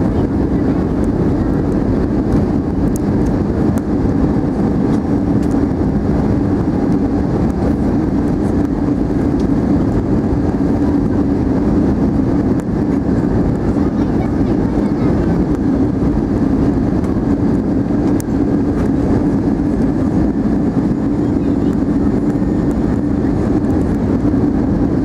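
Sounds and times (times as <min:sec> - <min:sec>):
jet engine drone in cabin: 0:00.0 - 0:25.0
low cabin hum: 0:00.0 - 0:25.0.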